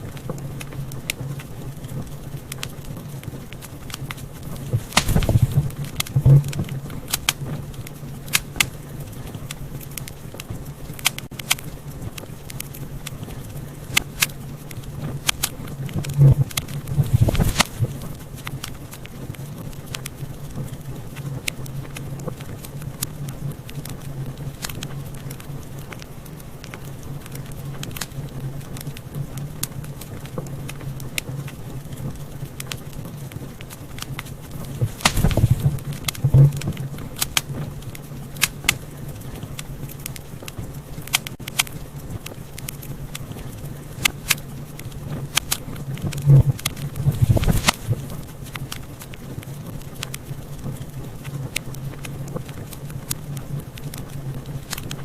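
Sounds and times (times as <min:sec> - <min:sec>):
steady low hum: 0:00.0 - 0:55.0
wood fire crackling and popping: 0:00.0 - 0:55.0.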